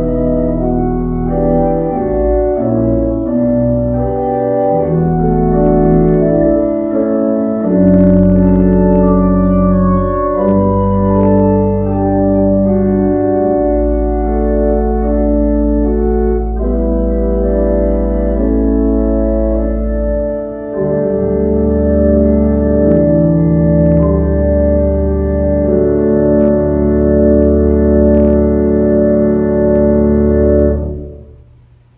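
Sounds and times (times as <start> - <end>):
organ playing sustained chords: 0.0 - 31.9.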